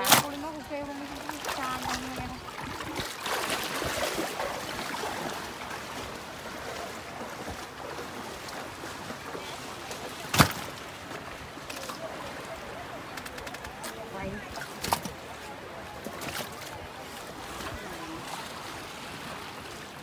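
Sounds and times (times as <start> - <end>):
water sloshing and splashing: 0.0 - 20.0.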